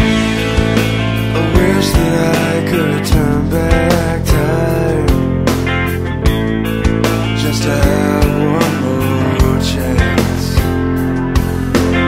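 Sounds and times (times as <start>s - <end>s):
drums keeping a steady beat: 0.0s - 12.0s
rock music: 0.0s - 12.0s.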